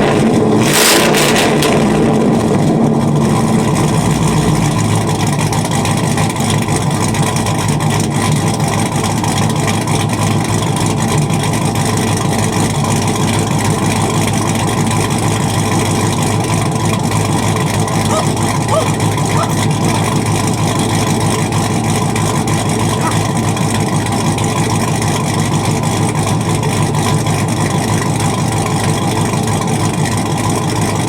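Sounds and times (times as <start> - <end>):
loud choppy engine idling: 0.0 - 31.0.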